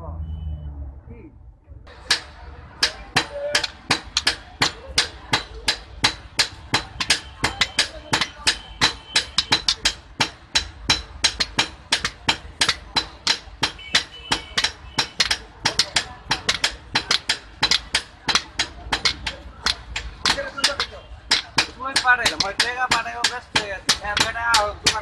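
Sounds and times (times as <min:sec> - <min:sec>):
hammer striking metal on anvil: 0:01.9 - 0:25.0.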